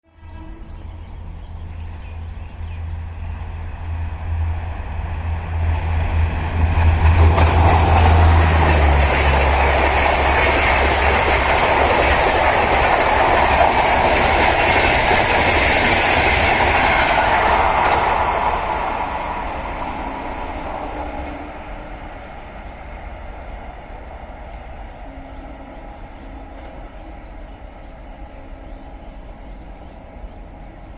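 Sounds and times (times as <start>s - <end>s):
electric locomotive hum: 0.0s - 30.9s
train coaches rushing past: 2.9s - 28.2s.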